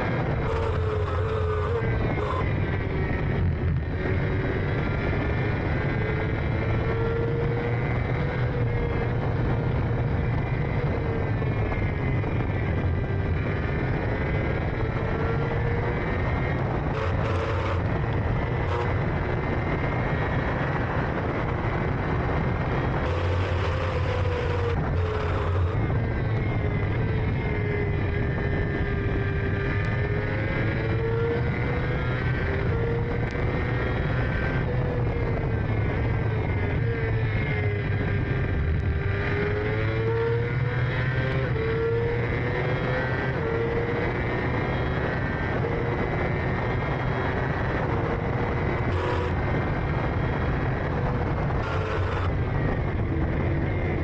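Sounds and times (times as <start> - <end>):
racing engine running hard: 0.0 - 54.0.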